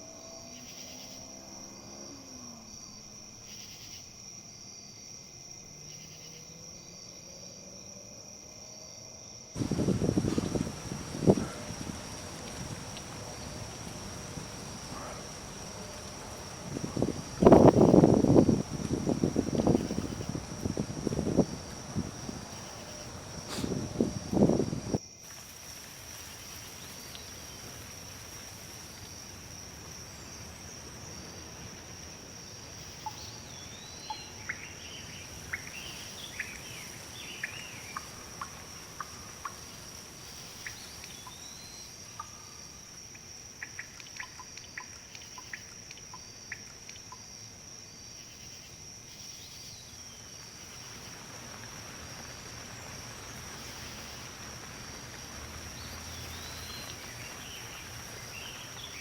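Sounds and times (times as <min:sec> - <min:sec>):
breeze rustling leaves: 0:00.0 - 0:59.0.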